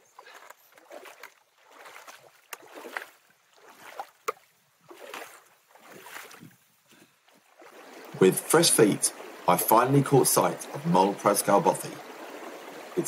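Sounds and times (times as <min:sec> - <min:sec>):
footsteps splashing in stream: 0:00.0 - 0:13.0.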